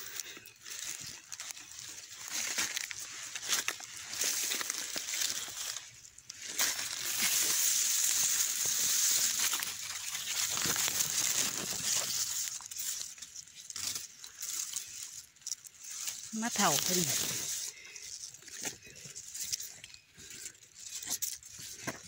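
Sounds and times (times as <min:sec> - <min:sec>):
dry leaves rustling and crackling: 0:00.0 - 0:22.0.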